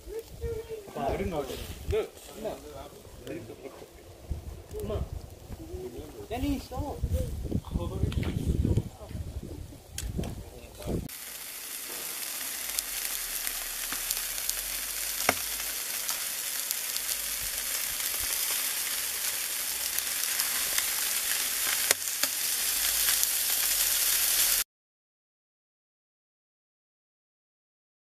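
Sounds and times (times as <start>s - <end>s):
meat sizzling on a grill: 0.0s - 8.8s, 10.7s - 24.6s.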